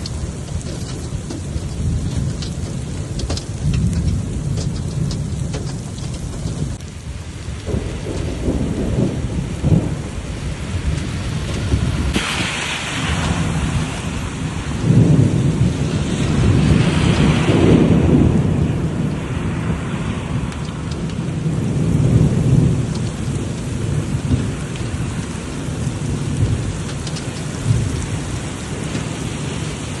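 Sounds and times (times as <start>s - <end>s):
heavy rain: 0.0s - 30.0s
thunder rolling: 0.0s - 30.0s.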